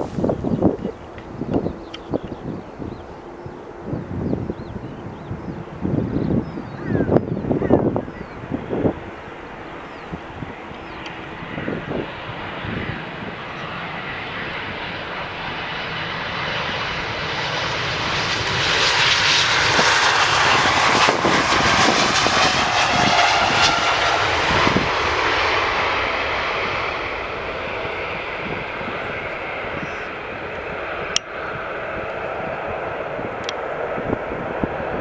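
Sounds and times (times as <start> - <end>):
jet airliner engines passing: 0.0 - 35.0
wind buffeting microphone: 0.0 - 35.0.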